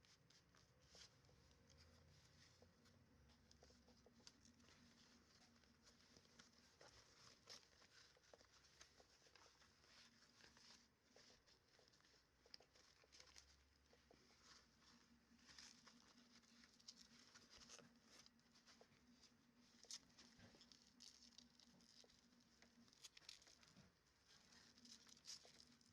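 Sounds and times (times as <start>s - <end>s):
small clicks and rustles: 0.0s - 25.9s.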